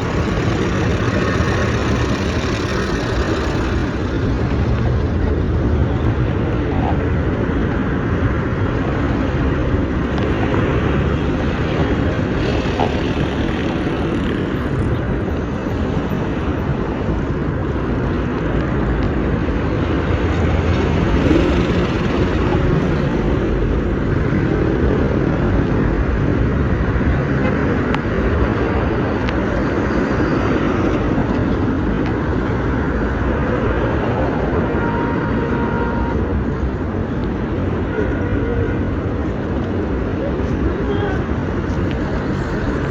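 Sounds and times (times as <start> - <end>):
vehicle rumble in motion: 0.0 - 42.9.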